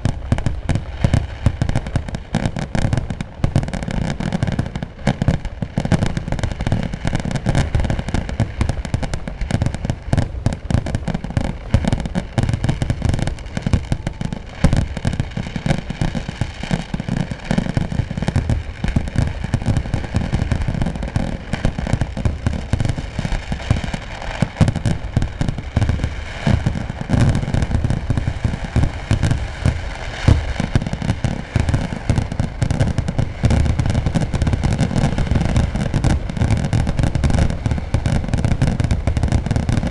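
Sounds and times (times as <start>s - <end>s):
firecracker explosions barrage: 0.0s - 39.9s.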